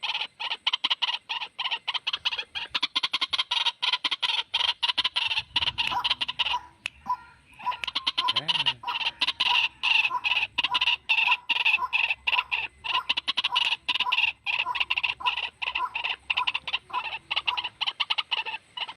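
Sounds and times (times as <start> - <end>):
waterhen calling rapidly: 0.0 - 18.9.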